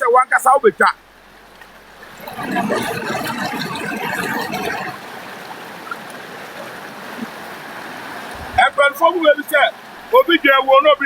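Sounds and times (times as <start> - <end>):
floodwater rushing and splashing: 0.0 - 11.0.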